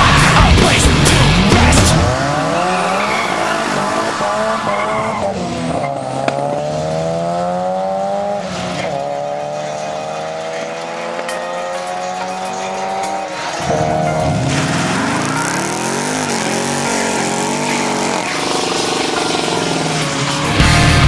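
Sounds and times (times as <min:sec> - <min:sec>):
racing car engine revving: 0:00.0 - 0:21.0
tires spinning: 0:00.0 - 0:21.0.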